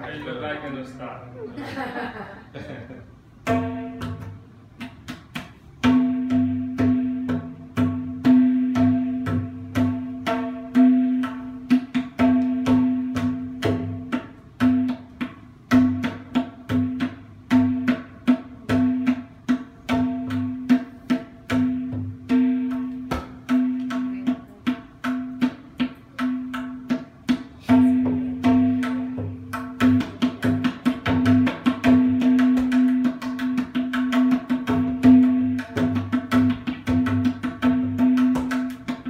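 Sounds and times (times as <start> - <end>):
tabla right-hand drum strokes: 3.4 - 39.0.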